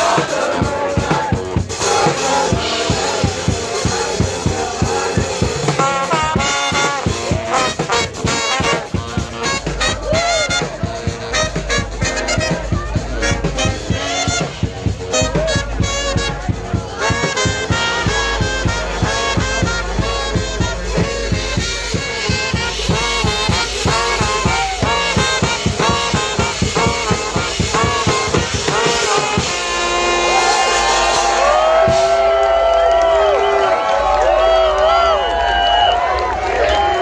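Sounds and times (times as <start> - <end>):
brass band with drums playing swing: 0.0 - 37.0.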